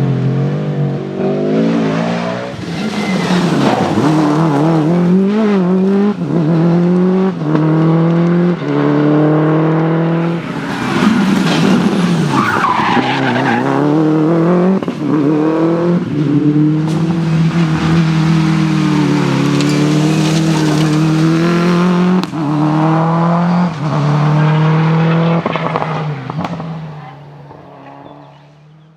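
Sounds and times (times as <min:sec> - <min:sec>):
rally car engine accelerating: 0:00.0 - 0:28.9.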